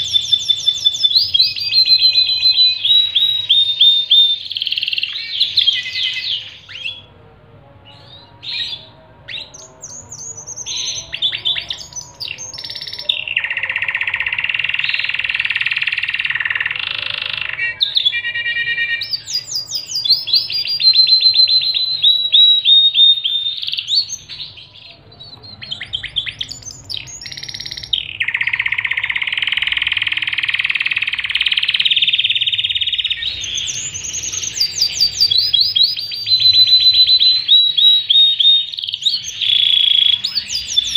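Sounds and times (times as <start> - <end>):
canary singing trills and chirps: 0.0 - 40.9.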